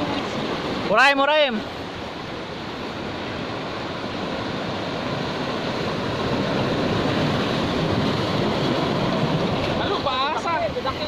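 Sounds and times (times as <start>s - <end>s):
surf breaking around boulders: 0.0s - 11.0s.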